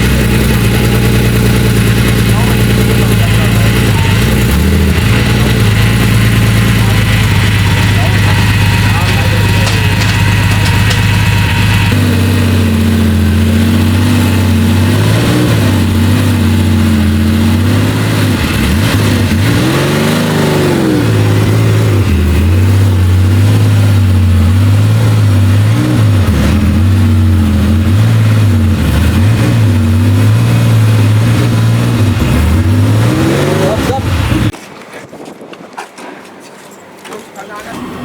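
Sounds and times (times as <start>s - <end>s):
car engine running and revving: 0.0s - 34.6s.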